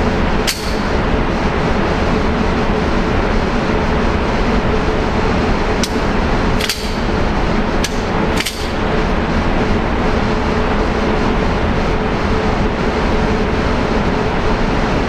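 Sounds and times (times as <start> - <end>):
steady loud rushing noise: 0.0 - 15.0.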